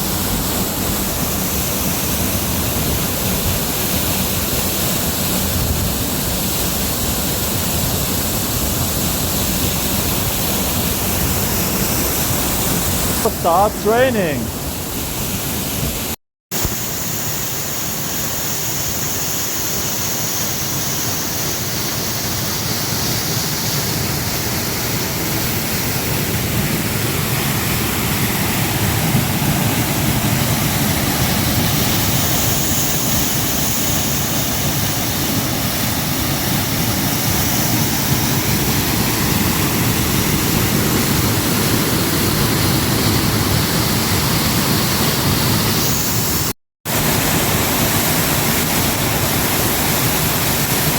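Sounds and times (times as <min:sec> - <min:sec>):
rush of falling water: 0:00.0 - 0:50.9.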